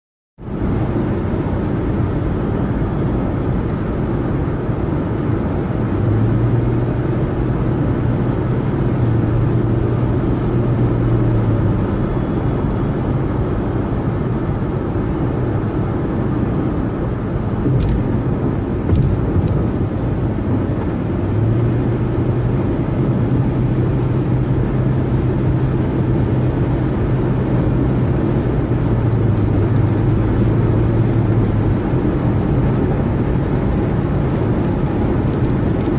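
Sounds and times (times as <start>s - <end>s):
road and tyre noise: 0.4s - 35.9s.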